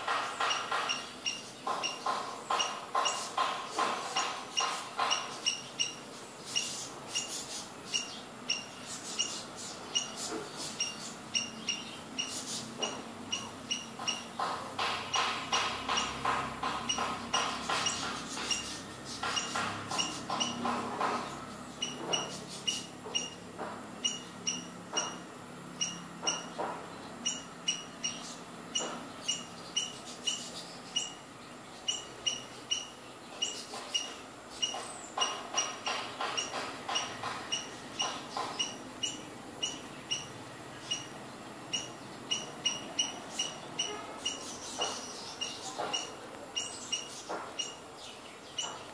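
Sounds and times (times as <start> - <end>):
small bird chirping: 0.1 - 48.9.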